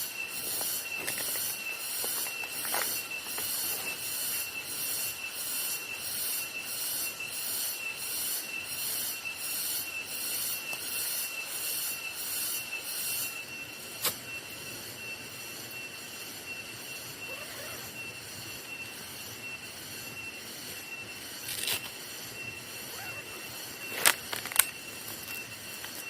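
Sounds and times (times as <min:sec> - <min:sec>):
night insects droning: 0:00.0 - 0:26.0
steady high whistle: 0:00.0 - 0:26.0.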